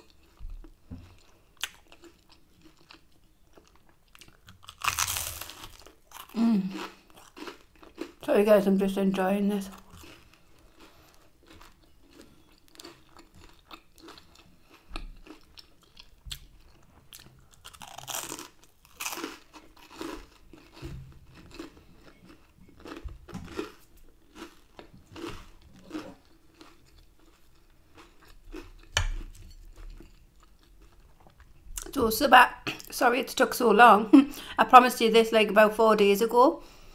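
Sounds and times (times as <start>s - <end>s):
person chewing and crunching food: 0.0s - 8.3s, 9.6s - 32.0s.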